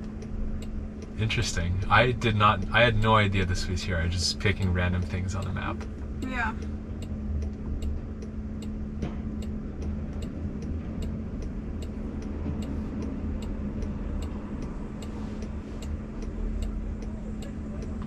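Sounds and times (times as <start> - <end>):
car cabin hum: 0.0 - 18.0
turn signal ticking: 0.0 - 18.0.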